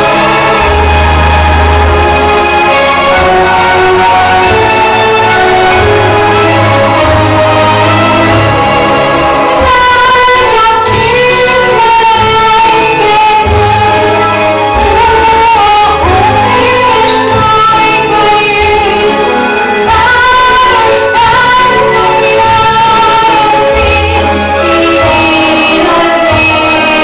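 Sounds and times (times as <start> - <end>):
loud instrumental accompaniment: 0.0 - 27.0.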